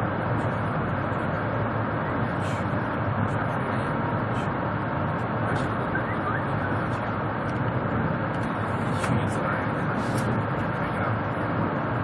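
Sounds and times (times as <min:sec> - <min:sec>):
train rumble inside cabin: 0:00.0 - 0:12.0.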